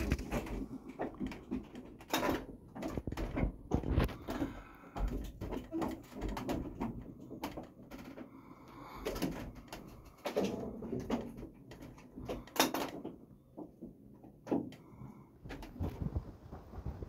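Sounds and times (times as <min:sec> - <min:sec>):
wooden gears creaking and clacking: 0:00.0 - 0:17.0.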